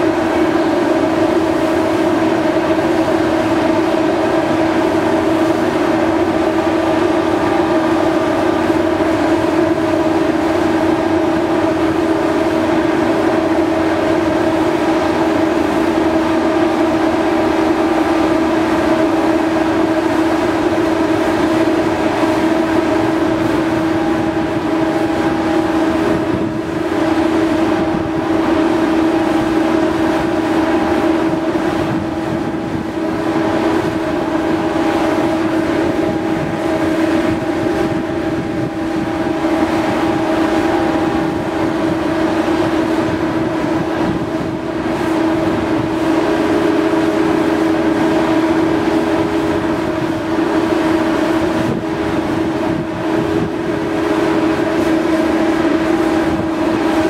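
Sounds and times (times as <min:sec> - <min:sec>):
ship machinery drone: 0:00.0 - 0:57.0.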